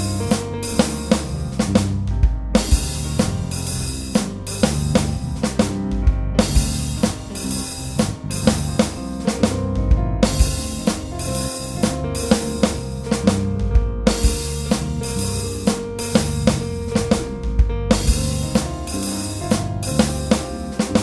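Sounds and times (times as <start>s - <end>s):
deep bass line: 0.0s - 21.0s
drum kit beat: 0.0s - 21.0s.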